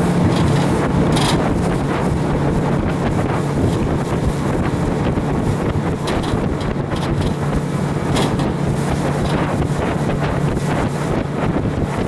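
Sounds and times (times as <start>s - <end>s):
boat motor droning: 0.0s - 12.0s
wind buffeting microphone: 0.0s - 12.0s.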